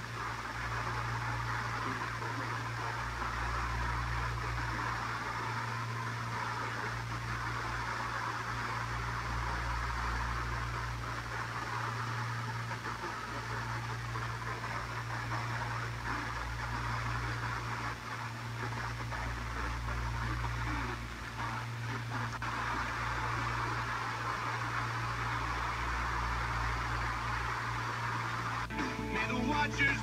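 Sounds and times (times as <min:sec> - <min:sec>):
low hum: 0:00.0 - 0:30.0
radio static hiss: 0:00.0 - 0:30.0.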